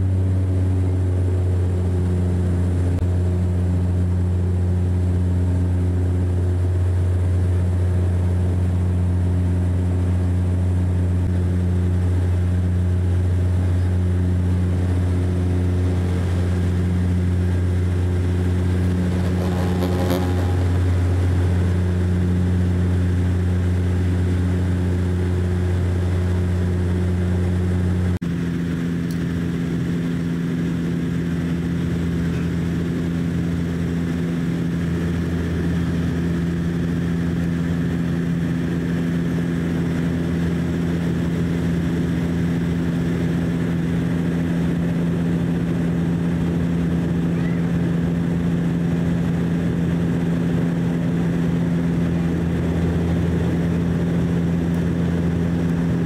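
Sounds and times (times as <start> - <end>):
turboprop cabin drone: 0.0 - 56.0.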